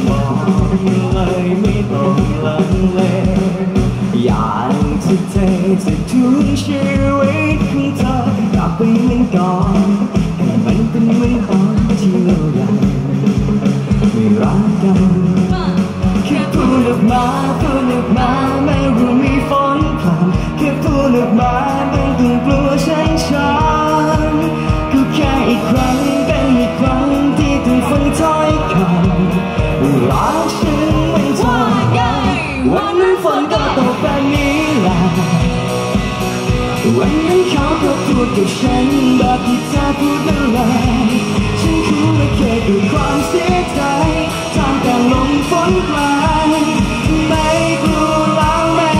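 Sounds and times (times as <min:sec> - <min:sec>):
person singing: 0:00.0 - 0:13.3, 0:13.9 - 0:35.8, 0:36.6 - 0:48.9
steady drum beat: 0:00.0 - 0:48.9.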